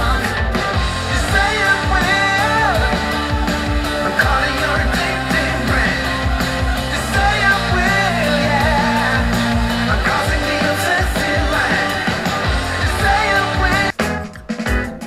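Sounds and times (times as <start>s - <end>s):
song with singer and band: 0.0s - 15.0s.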